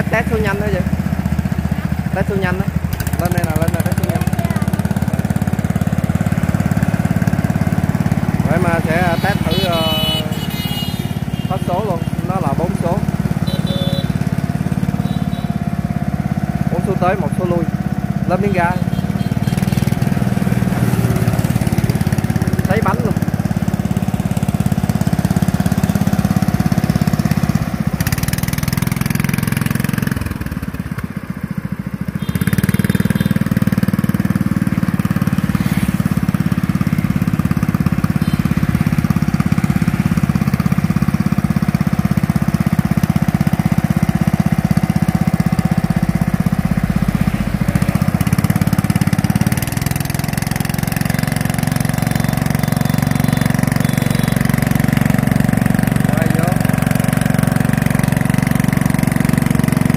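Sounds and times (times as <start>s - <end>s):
ride-on mower engine running: 0.0s - 59.9s.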